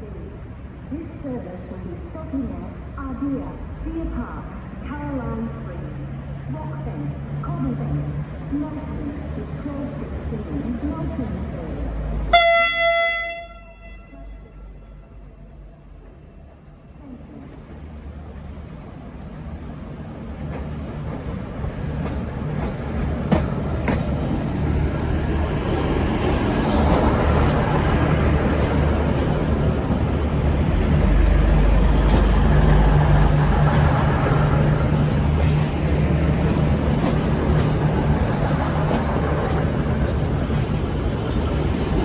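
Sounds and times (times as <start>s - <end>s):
diesel train engines running: 0.0s - 42.0s.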